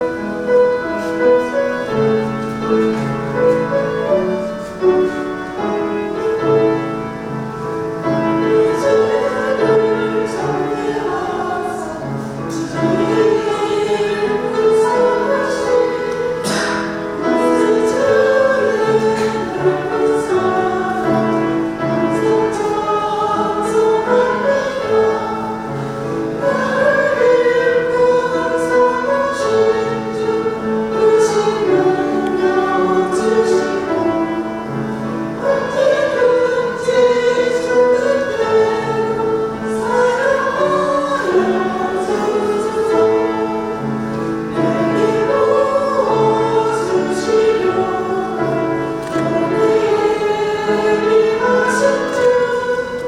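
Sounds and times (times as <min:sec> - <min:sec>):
women's choir singing a hymn: 0:00.0 - 0:53.0.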